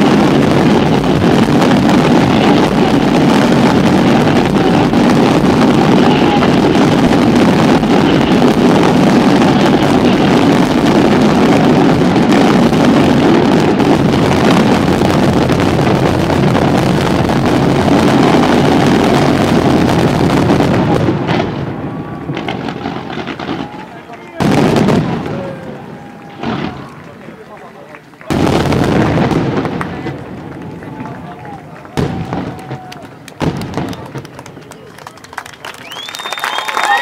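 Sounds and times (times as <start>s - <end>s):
fireworks barrage rumbling: 0.0s - 37.0s.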